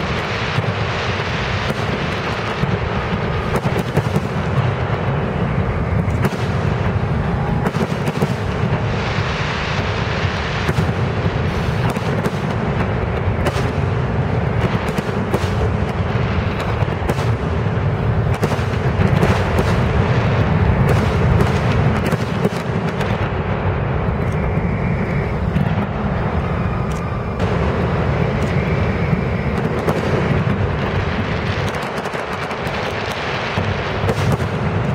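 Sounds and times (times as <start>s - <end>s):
fireworks booming and cracking: 0.0s - 34.9s.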